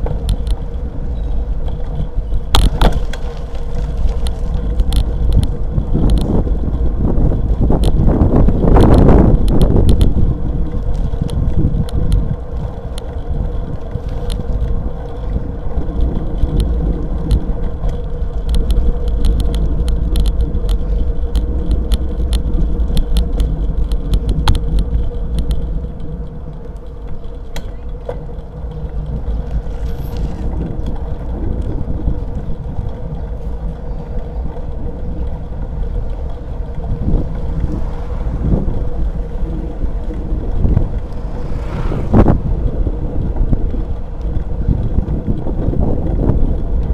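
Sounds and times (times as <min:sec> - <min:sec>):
bicycle clicks and rattles: 0:00.0 - 0:46.9
tyre and road noise: 0:00.0 - 0:46.9
wind buffeting microphone: 0:00.0 - 0:46.9.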